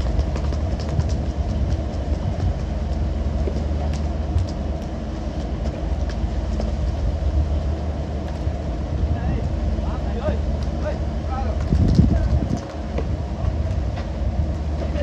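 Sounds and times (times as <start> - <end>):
boat engine rumbling: 0.0 - 15.0
water washing along hull: 0.0 - 15.0.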